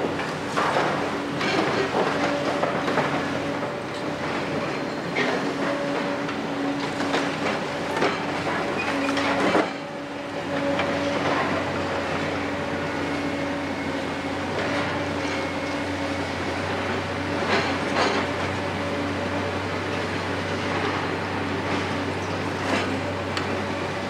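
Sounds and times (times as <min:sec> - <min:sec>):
excavator engine humming: 0:00.0 - 0:24.0.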